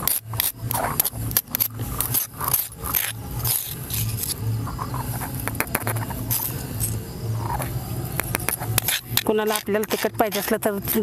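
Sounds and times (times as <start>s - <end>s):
metal spoon scraping stone mortar: 0.0s - 11.0s.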